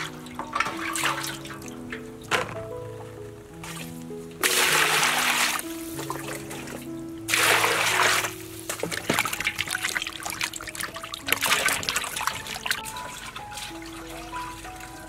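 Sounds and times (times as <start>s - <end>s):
water pouring into metal basin: 0.0s - 2.0s, 4.4s - 15.0s
hands washing meat in water: 0.0s - 2.5s, 3.6s - 15.0s
background music with held notes: 0.0s - 15.0s.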